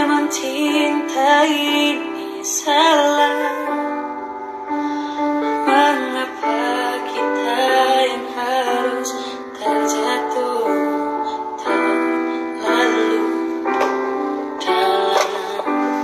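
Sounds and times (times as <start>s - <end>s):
woman singing slow melody: 0.0s - 4.4s, 5.5s - 16.0s.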